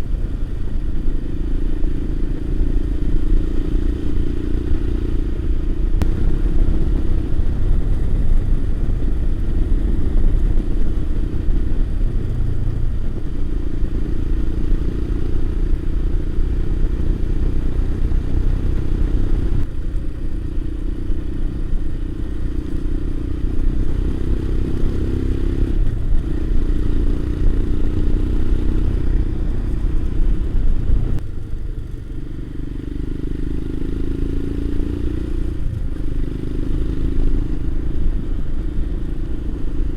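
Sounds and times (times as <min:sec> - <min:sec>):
heavy low rumble: 0:00.0 - 0:32.8
motorcycle engine riding: 0:00.0 - 0:39.9.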